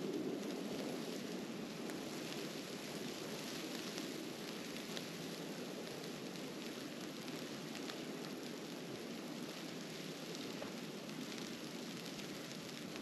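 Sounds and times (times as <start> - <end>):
snowstorm wind hissing: 0.0 - 13.0.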